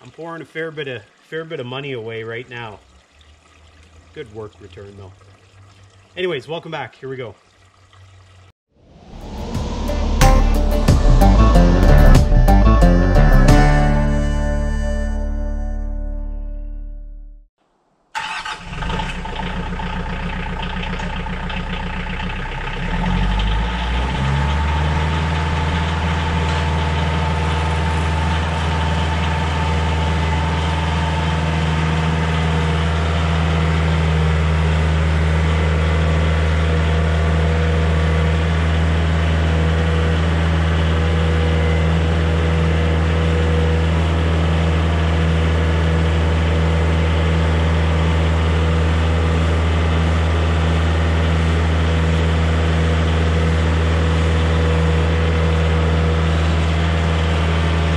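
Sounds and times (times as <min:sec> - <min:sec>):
diesel tractor engine running: 0:09.0 - 0:16.6, 0:18.2 - 0:57.9.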